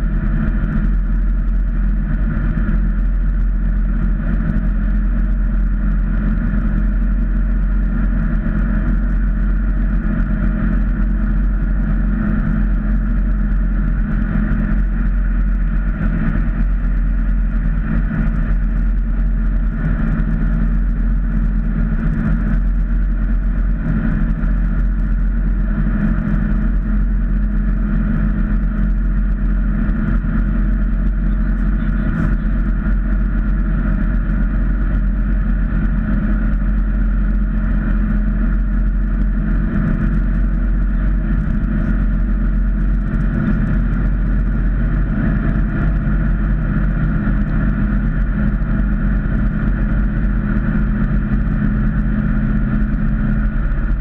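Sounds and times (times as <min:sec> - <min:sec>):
car engine drone: 0:00.0 - 0:54.0
road and tyre noise: 0:00.0 - 0:54.0.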